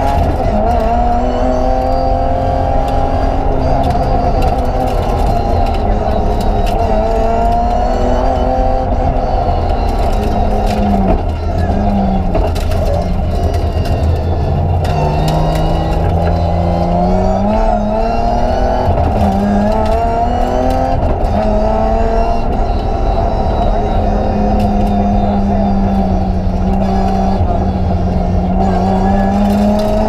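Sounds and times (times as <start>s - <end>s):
rally car engine revving from cabin: 0.0s - 30.0s.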